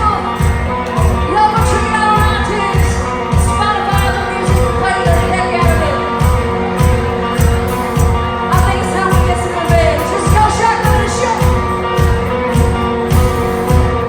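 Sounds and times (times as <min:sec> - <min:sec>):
country band music: 0:00.0 - 0:14.0
steady drum beat: 0:00.0 - 0:14.0.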